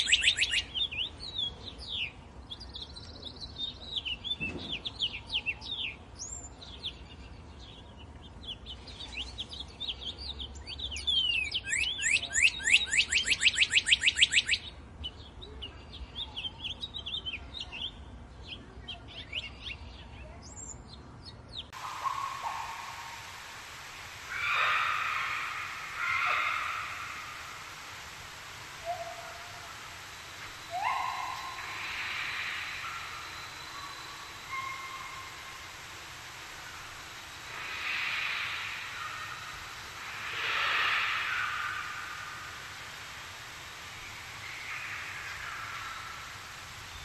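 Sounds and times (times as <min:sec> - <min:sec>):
steady hiss: 0:00.0 - 0:15.3, 0:21.7 - 0:47.0
birds singing and chirping: 0:00.0 - 0:47.0.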